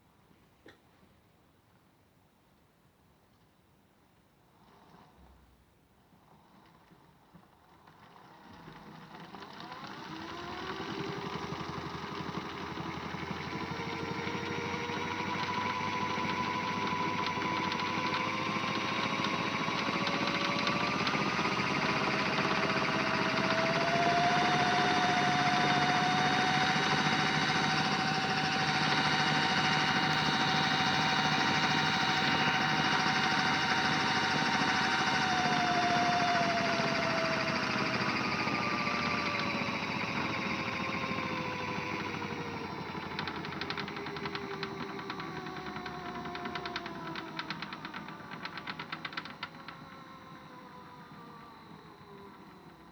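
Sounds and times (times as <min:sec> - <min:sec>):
small electric motor whine: 0:08.6 - 0:52.9.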